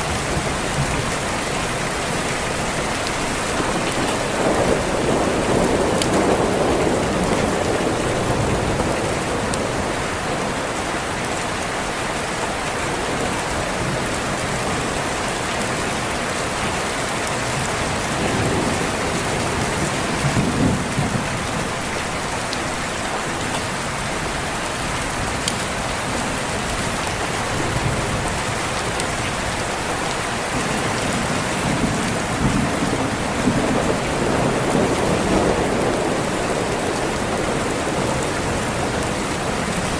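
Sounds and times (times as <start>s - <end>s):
low rolling thunder: 0.0s - 11.6s, 17.4s - 39.9s
steady rain falling: 0.0s - 39.9s.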